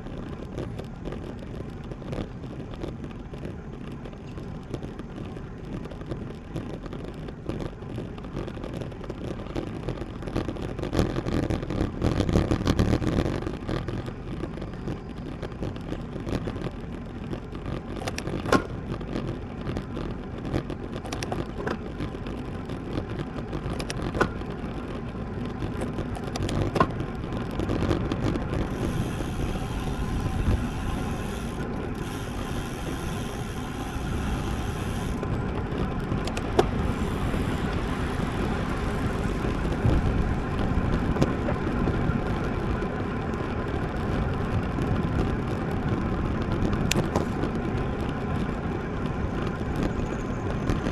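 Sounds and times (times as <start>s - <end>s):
wind and road rushing: 0.0s - 50.9s.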